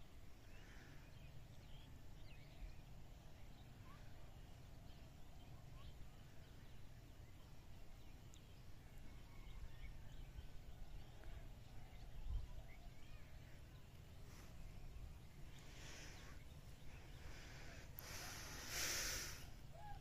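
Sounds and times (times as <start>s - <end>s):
faint bird chirps and whistles: 0.4s - 20.0s.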